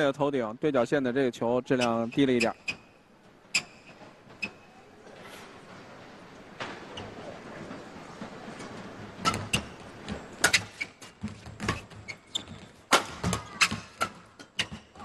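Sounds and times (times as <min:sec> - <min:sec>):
sports hall hum: 0:00.0 - 0:15.0.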